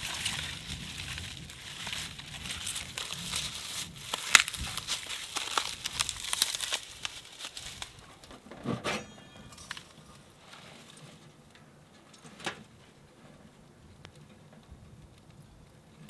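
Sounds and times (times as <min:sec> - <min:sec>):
bark crinkling and crackling: 0:00.0 - 0:08.5, 0:09.6 - 0:16.0.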